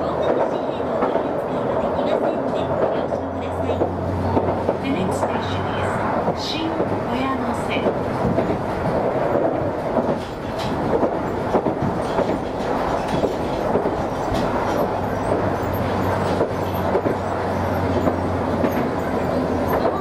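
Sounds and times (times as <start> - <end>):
train rolling rumble: 0.0 - 20.0.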